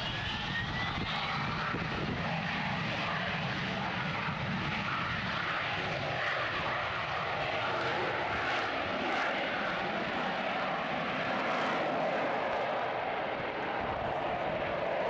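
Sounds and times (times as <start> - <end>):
jet engine roar: 0.0 - 15.0
jet engine whine rising: 0.0 - 15.0.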